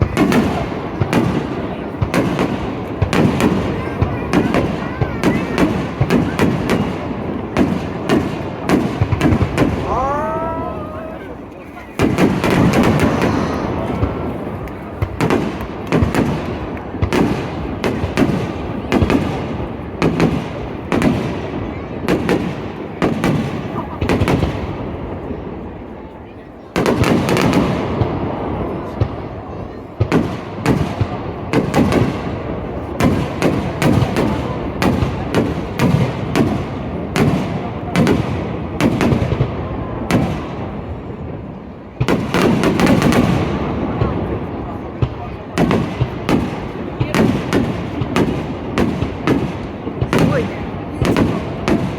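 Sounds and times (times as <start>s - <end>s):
fireworks crackling: 0.0s - 24.8s, 30.0s - 51.9s
fireworks bursting: 0.0s - 25.0s, 30.0s - 51.9s.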